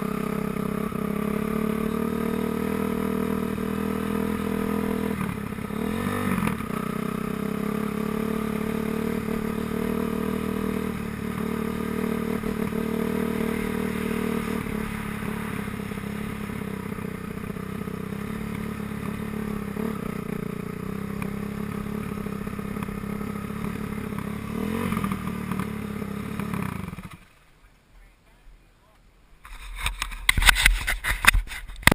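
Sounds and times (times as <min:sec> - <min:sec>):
motocross bike engines revving: 0:00.0 - 0:28.1.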